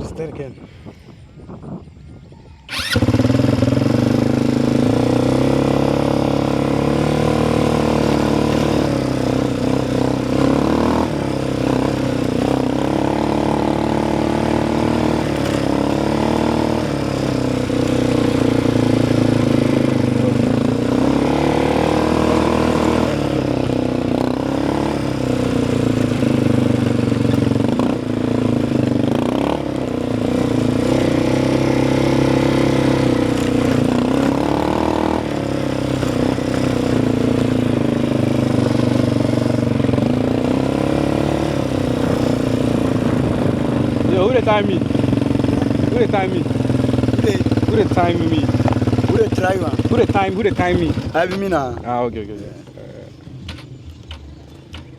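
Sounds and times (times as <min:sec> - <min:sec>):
quad bike engine revving: 0:02.7 - 0:54.9.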